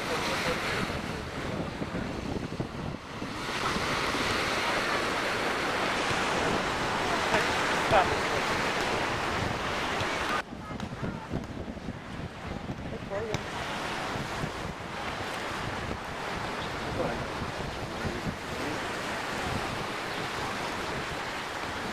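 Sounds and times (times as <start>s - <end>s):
surf breaking on a beach: 0.0s - 21.9s
wind on microphone: 0.0s - 21.9s.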